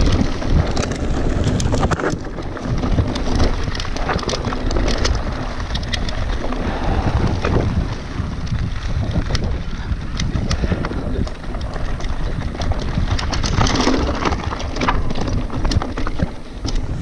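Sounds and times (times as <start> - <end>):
bike clicking and rattling: 0.0 - 17.0
bike tyres rolling on dirt: 0.0 - 17.0
wind buffeting microphone: 0.0 - 17.0.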